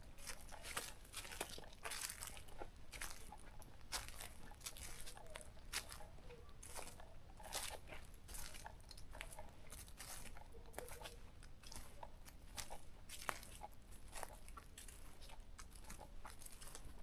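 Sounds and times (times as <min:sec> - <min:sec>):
footsteps crunching on a trail: 0:00.0 - 0:17.0.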